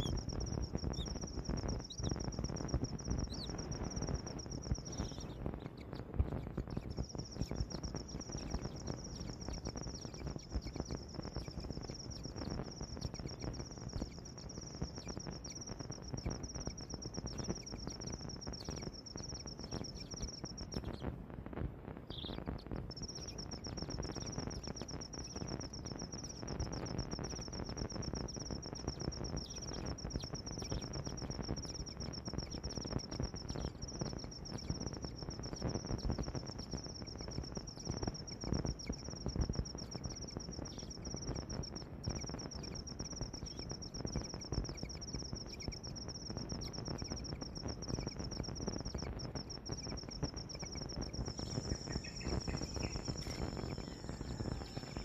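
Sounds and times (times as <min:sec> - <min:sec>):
insect trilling: 0:00.0 - 0:21.0, 0:22.1 - 0:55.0
low rough background noise: 0:00.0 - 0:55.0.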